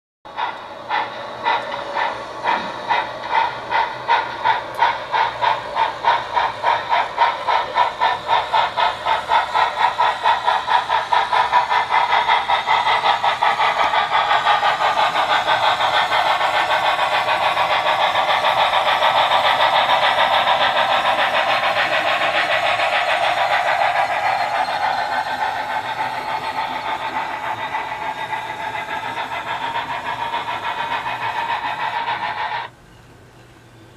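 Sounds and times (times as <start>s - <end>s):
steam locomotive chuffing: 0.3s - 33.9s.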